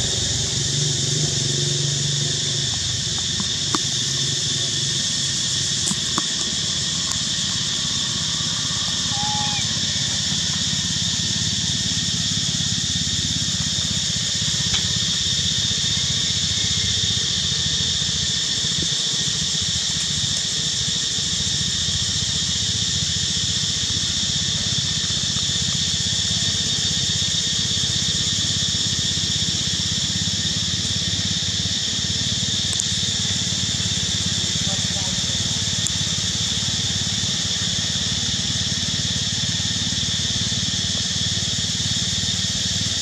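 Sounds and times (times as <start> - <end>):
high-pitched insect chorus: 0.0 - 43.0.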